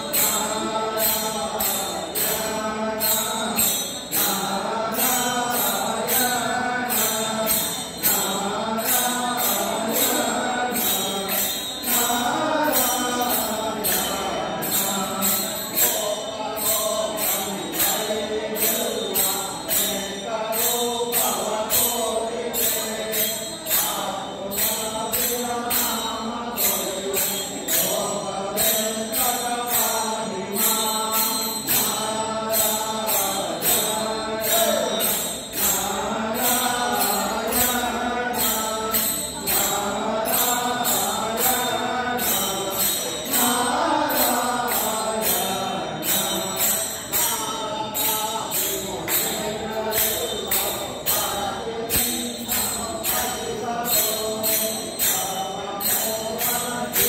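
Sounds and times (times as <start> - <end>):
group singing in unison: 0.0 - 57.0
hand cymbals clashing: 0.0 - 57.0.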